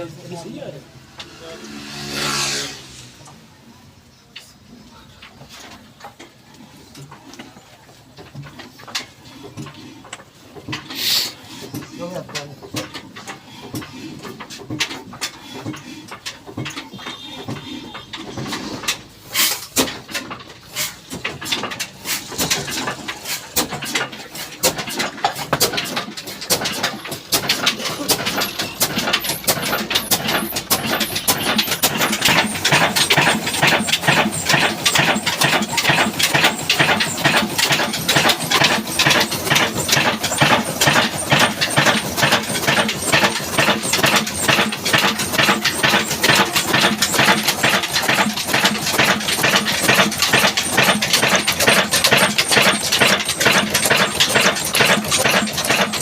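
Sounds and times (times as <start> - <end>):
diesel engine starting up: 0.0 - 7.6, 8.2 - 56.0.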